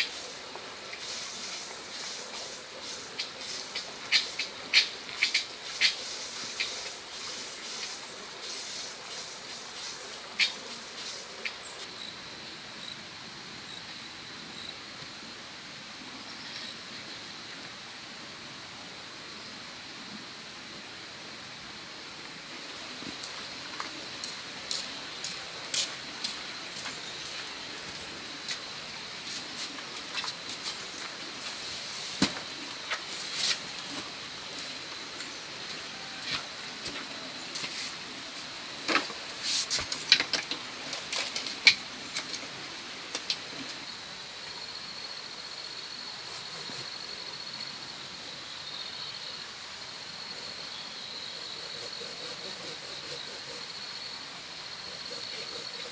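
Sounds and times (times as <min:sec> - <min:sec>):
rapidly pulsing insect trill: 0:00.0 - 0:15.3, 0:22.4 - 0:55.9
faint high insect trill: 0:00.0 - 0:17.8, 0:21.8 - 0:55.9.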